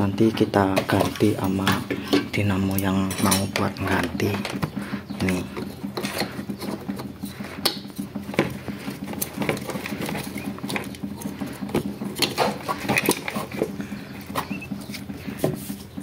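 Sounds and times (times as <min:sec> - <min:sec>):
steady low hum: 0:00.0 - 0:16.0
motor housing clicking and rattling: 0:00.2 - 0:16.0.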